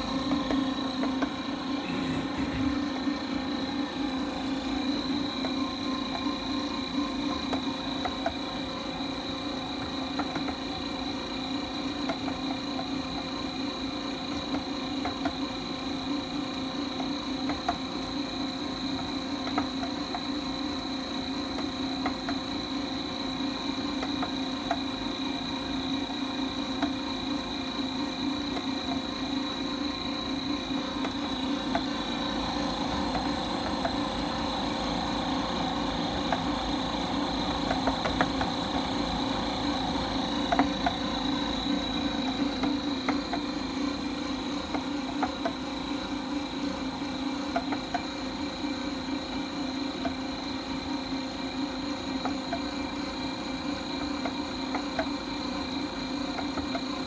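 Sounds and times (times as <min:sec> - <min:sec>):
dough mixer motor hum: 0:00.0 - 0:57.0.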